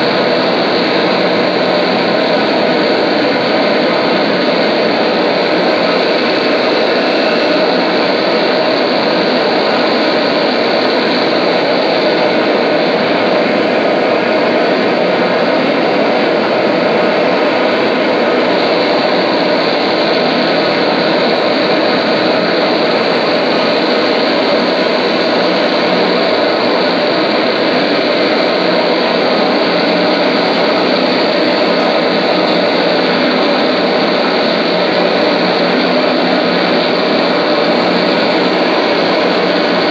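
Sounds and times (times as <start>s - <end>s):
distorted electric guitar drone: 0.0s - 39.9s.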